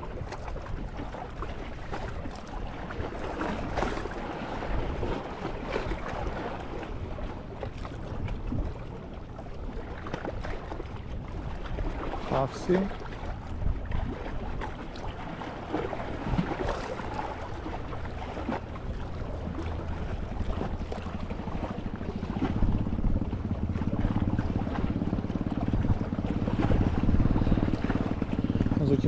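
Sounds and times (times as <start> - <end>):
sea water: 0.0 - 29.0
wind buffeting microphone: 0.0 - 29.0.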